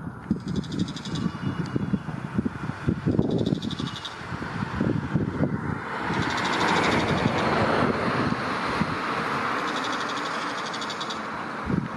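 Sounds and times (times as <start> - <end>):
passing vehicle rushing: 0.3 - 11.9.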